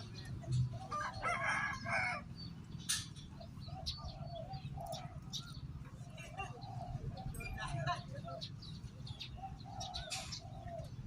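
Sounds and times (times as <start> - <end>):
dove cooing: 0.0 - 2.2, 3.3 - 11.0.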